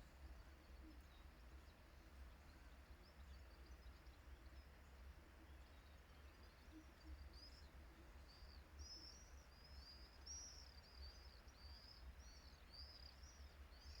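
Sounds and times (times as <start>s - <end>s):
small birds chirping: 0.4s - 14.0s.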